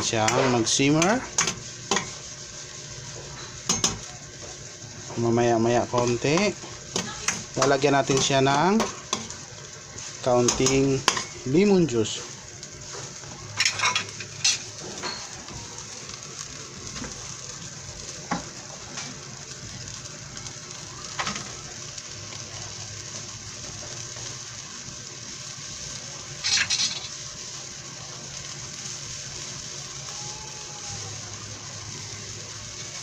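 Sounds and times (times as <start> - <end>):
sauce sizzling in a pan: 0.0 - 33.0.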